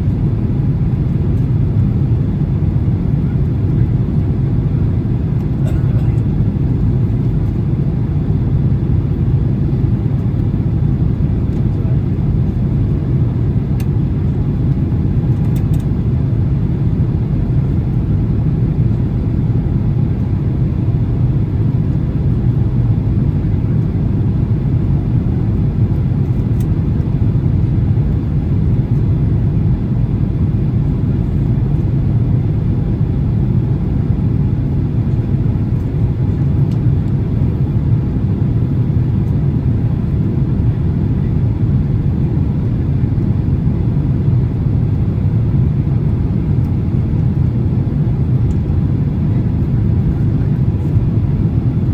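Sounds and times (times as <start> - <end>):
aircraft cabin engine rumble: 0.0 - 51.9.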